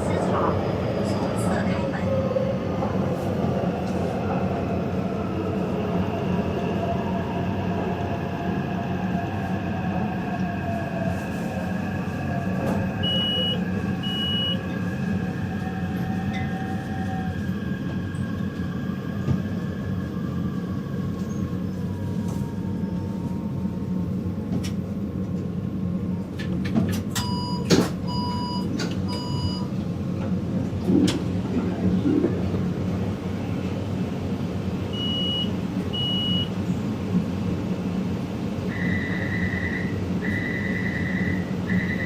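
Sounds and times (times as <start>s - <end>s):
train carriage rumble: 0.0s - 42.0s.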